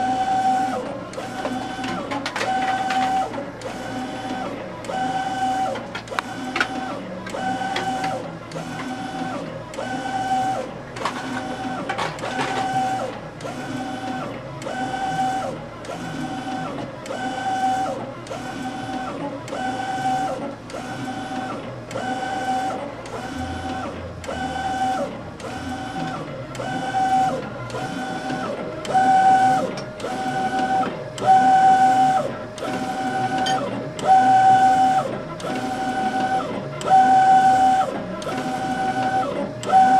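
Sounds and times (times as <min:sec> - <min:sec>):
printer carriage sweeping with motor whine: 0:00.0 - 0:39.9.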